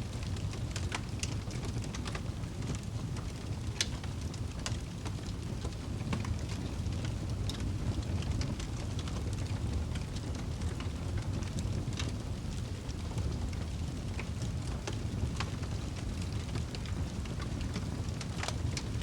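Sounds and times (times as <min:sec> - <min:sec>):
fire crackles and pops: 0:00.0 - 0:19.0
fire low roar: 0:00.1 - 0:19.0.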